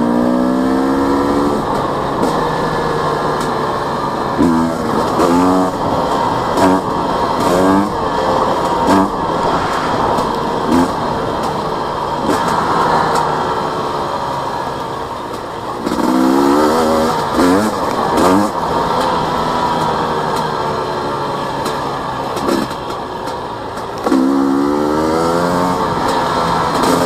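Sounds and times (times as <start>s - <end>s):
motorcycle engine revving: 0.0s - 27.0s
steady rush of noise: 0.0s - 27.0s.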